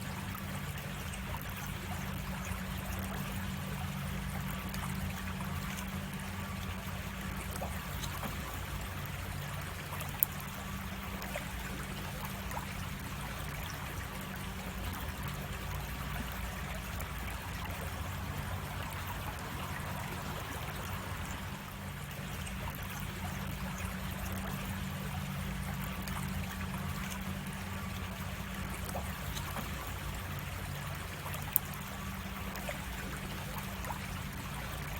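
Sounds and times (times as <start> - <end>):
creek water over cascade: 0.0 - 34.9
low hum: 0.0 - 34.9.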